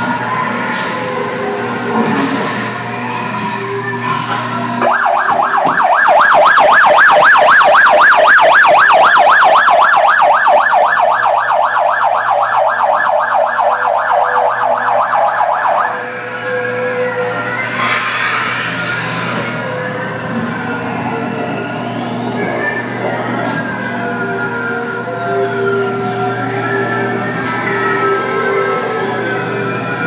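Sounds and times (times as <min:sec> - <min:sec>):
electronic siren warbling: 0:00.0 - 0:30.0.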